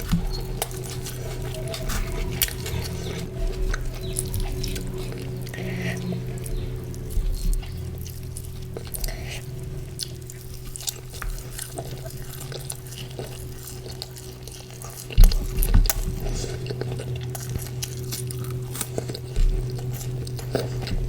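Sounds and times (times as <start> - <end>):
steady low hum: 0.0 - 21.0
wet eating clicks and smacks: 0.0 - 21.0.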